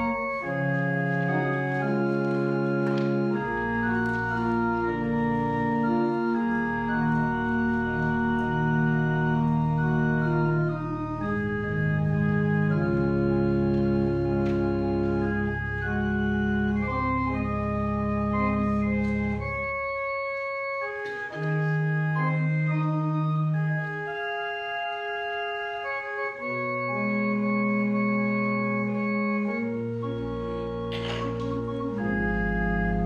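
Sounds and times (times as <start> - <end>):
organ playing slow chords: 0.0 - 33.0.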